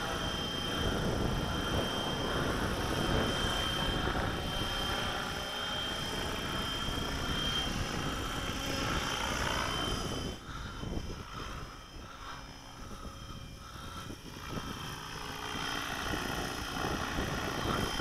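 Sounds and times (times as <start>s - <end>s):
high whine: 0.0s - 18.0s
rc helicopter rotor and motor: 0.0s - 18.0s.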